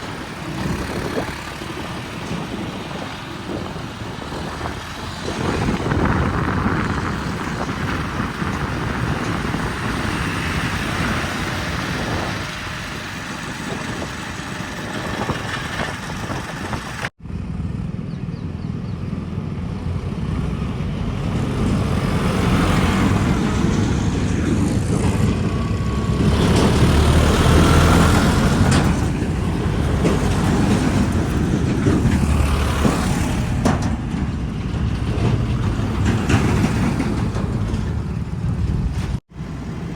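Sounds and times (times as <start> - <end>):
heavy diesel engines under load: 0.0 - 39.9.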